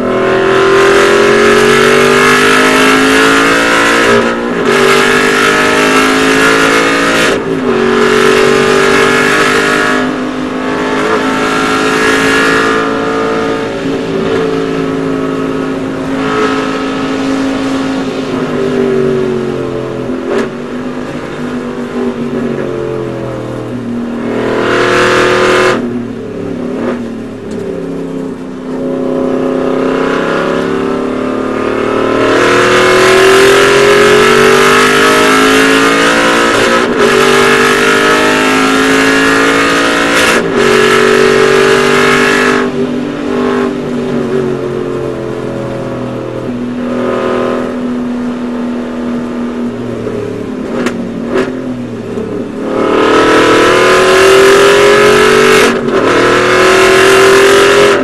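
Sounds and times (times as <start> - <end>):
racing car engine accelerating: 0.0 - 58.0.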